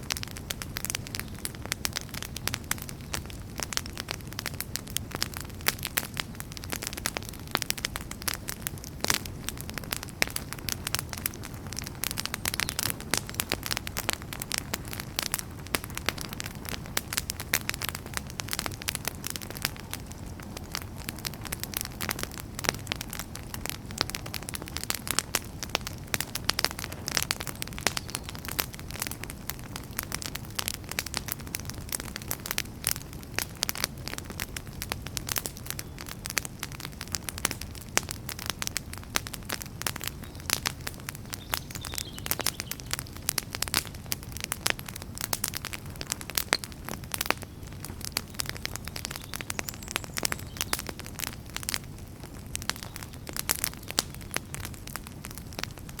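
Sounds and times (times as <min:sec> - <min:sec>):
logs crackling and popping: 0:00.0 - 0:56.0
low rumble of flame: 0:00.0 - 0:56.0.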